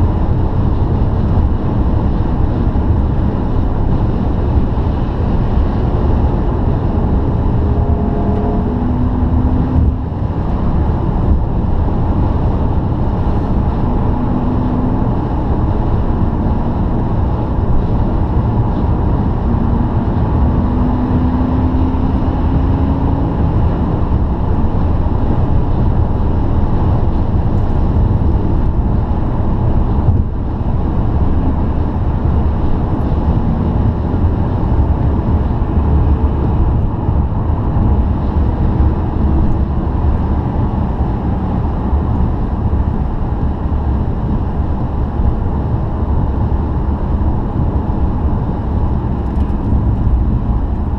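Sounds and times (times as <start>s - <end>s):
car road rumble and tyre hiss: 0.0s - 50.9s
faint engine drone: 0.0s - 50.9s.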